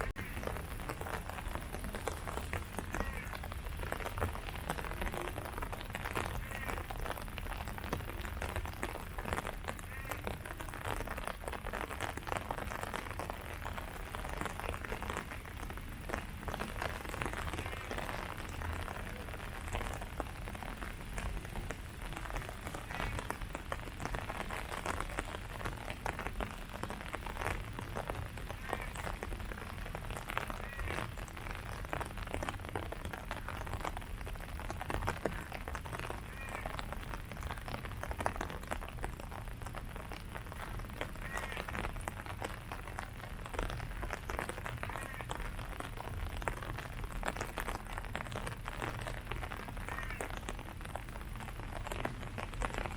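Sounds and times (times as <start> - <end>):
rain falling on leaves: 0.0 - 52.9.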